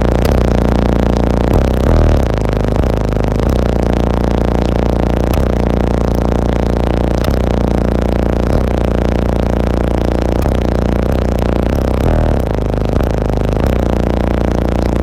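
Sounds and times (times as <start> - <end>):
loud deep subwoofer bass note: 0.0 - 15.0.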